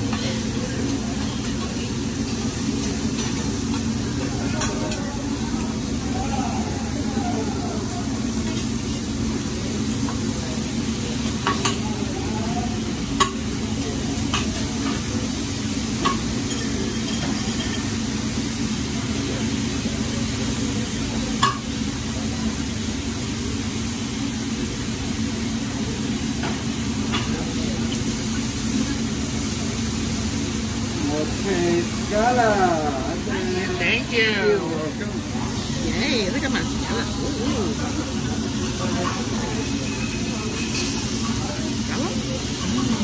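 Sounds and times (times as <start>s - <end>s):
food sizzling on griddle: 0.0s - 43.0s.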